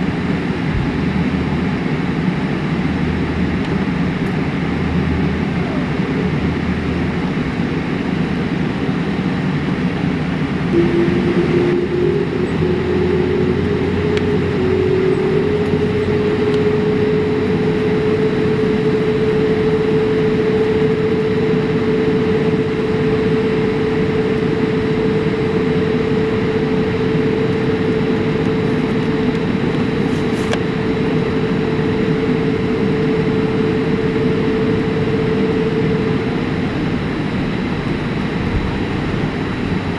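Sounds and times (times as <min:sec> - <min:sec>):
cabin engine rush: 0:00.0 - 0:39.9
jet engine whine: 0:00.0 - 0:39.9.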